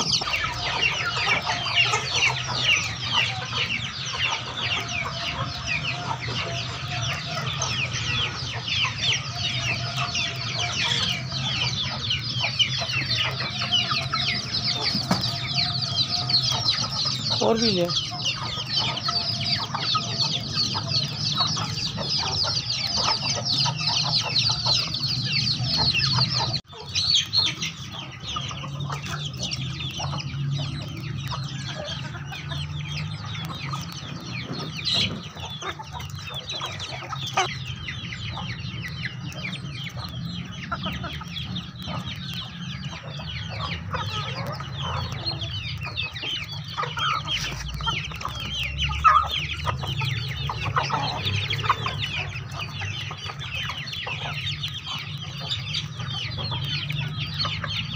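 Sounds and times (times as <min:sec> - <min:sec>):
chickens clucking: 0:00.0 - 0:57.9
chicks peeping: 0:00.0 - 0:57.9.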